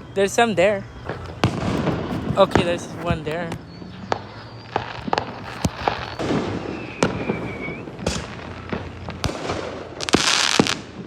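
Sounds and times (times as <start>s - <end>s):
falling firework whistle: 0.0s - 11.0s
firework bangs and pops: 1.0s - 11.0s.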